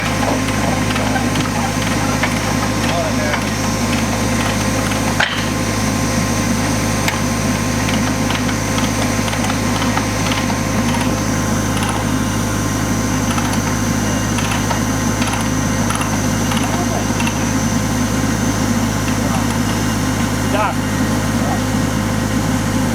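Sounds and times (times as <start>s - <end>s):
machinery engine humming: 0.0s - 22.9s.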